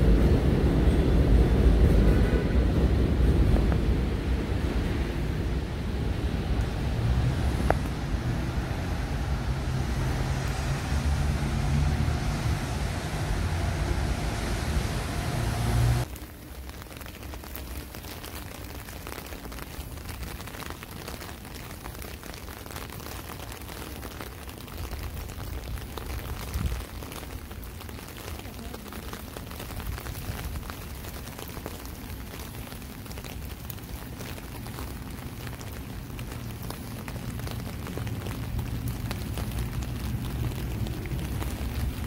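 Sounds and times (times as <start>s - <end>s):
rain on a sidewalk: 0.0s - 42.0s
traffic on a wet highway: 0.0s - 42.0s.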